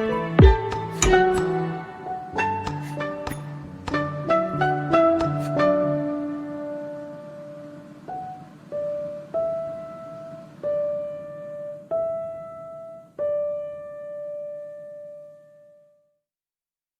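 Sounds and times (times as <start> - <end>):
slow piano melody: 0.0 - 16.1.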